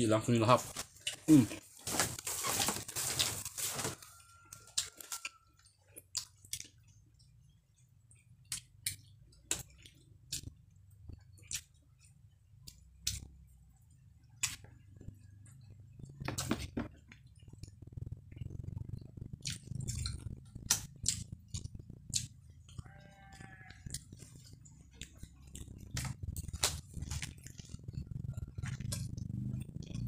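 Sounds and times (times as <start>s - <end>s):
person chewing food: 0.7s - 30.0s.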